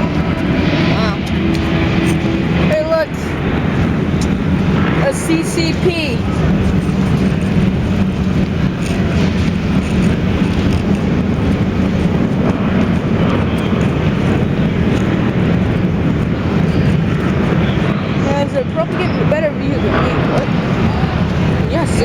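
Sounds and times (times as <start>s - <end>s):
engines rumbling: 0.0s - 22.0s.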